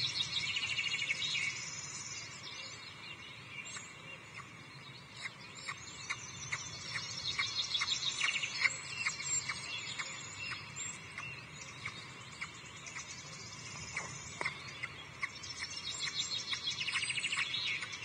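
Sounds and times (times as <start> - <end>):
songbirds singing and chirping: 0.0 - 18.0.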